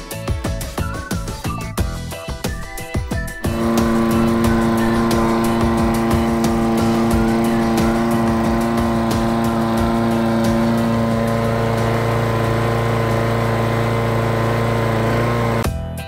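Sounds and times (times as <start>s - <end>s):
lawnmower engine running: 2.6s - 15.6s.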